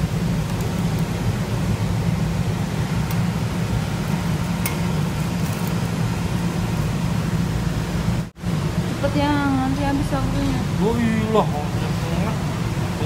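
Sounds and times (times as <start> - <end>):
stove low rumble: 0.0 - 13.0.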